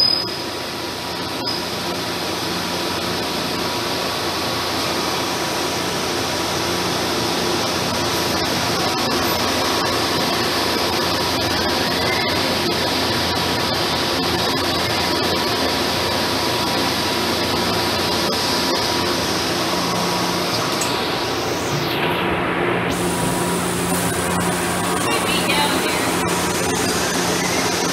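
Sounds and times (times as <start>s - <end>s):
lathe machine hiss and hum: 0.0s - 27.9s.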